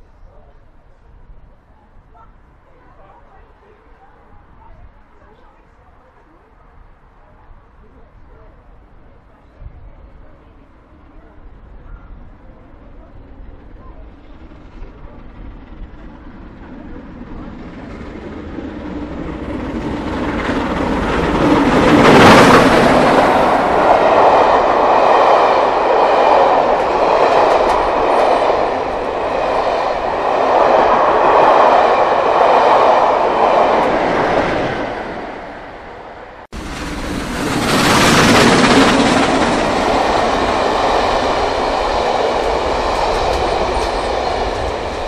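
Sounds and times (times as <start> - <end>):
steam locomotive passing: 0.0 - 45.0.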